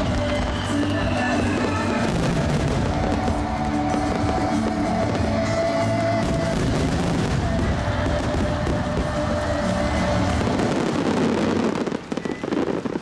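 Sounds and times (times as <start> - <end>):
firework shells bursting and crackling: 0.0 - 13.0
music: 0.0 - 13.0.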